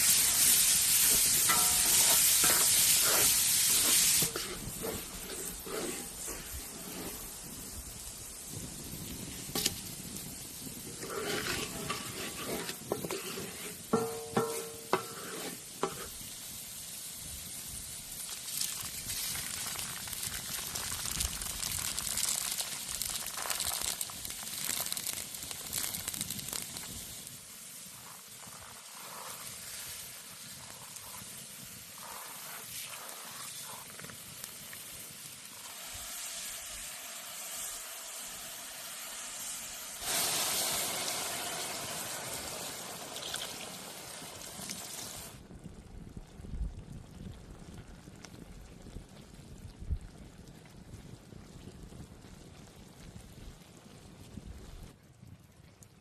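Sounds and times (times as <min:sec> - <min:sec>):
food sizzling in a pan: 0:00.0 - 0:45.4.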